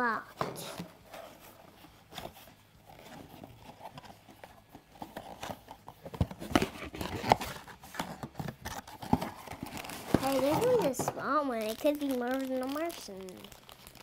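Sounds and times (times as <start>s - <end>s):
cardboard rustling and scraping: 0.2s - 13.4s.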